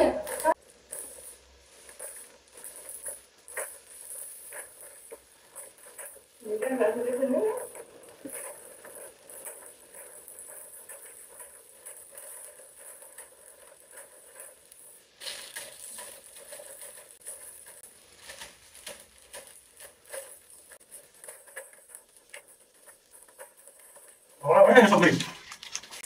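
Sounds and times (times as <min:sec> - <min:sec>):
plastic chip bags crinkling: 0:00.4 - 0:26.0.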